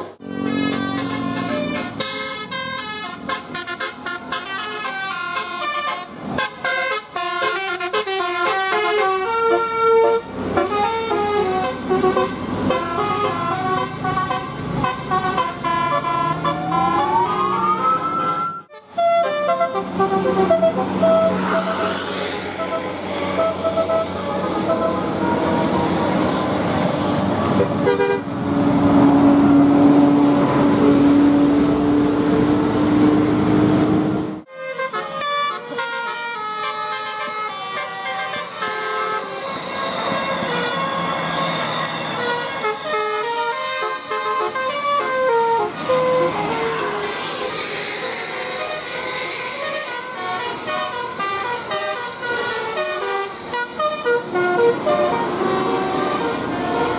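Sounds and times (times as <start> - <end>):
multi-tone bus horn tune: 0.0 - 56.9.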